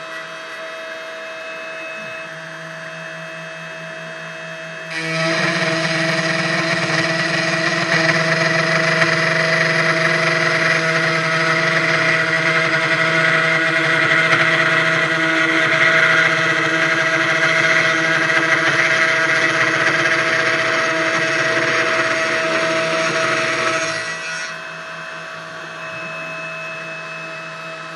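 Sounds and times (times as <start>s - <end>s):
router spindle whine: 0.0s - 27.9s.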